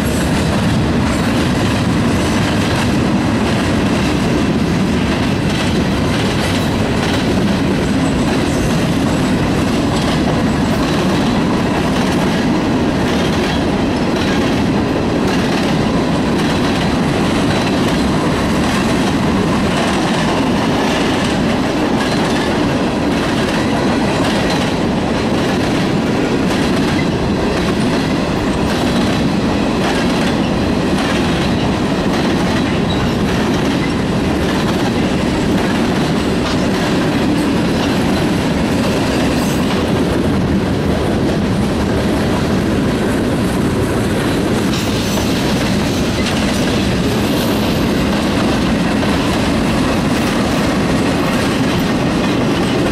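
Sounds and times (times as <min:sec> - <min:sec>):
freight train rumbling: 0:00.0 - 0:52.9.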